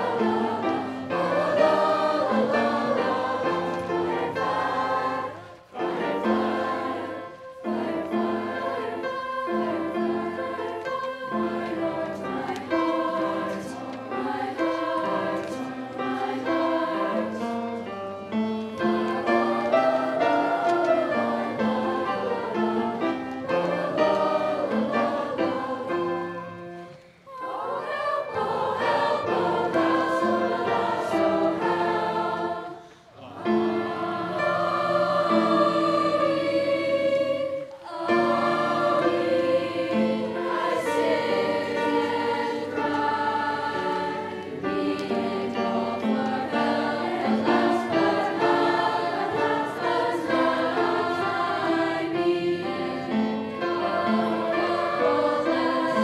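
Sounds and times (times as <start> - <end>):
choir singing in parts: 0.0 - 56.0.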